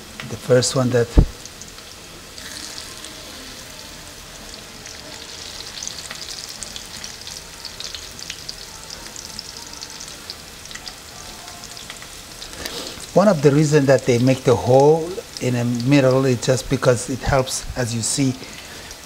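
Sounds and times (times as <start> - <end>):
patties sizzling in oil: 0.0 - 19.0.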